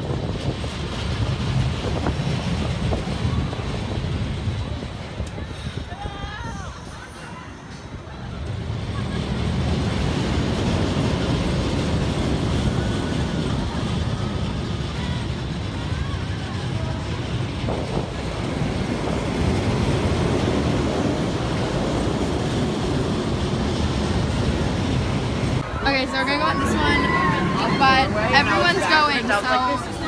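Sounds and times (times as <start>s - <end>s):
thrill ride rumble: 0.0s - 30.0s
wind on microphone: 0.0s - 30.0s
distant voices: 0.5s - 30.0s.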